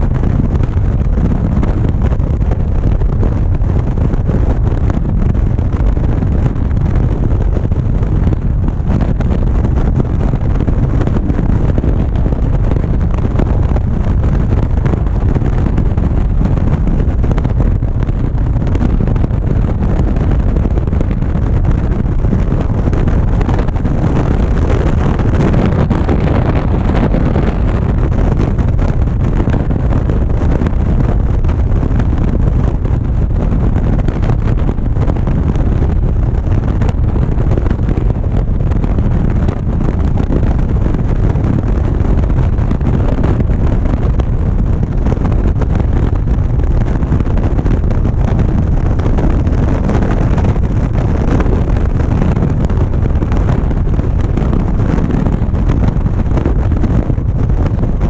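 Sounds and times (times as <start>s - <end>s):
motorcycle engine and road noise: 0.0s - 58.0s
wind roar on microphone: 0.0s - 58.0s.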